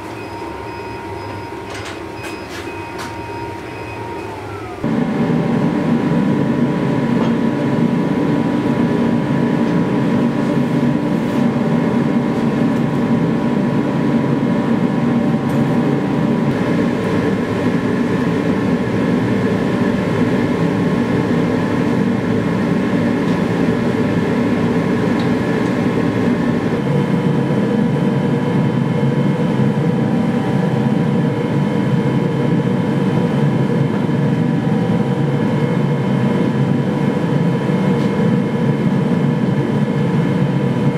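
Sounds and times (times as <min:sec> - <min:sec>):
gas forge rushing: 0:04.0 - 0:40.9.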